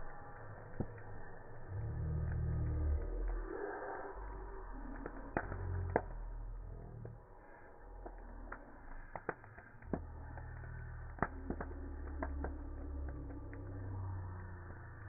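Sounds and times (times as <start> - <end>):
low fire rumble: 0.0 - 15.0
wood crackling and popping: 0.0 - 15.0.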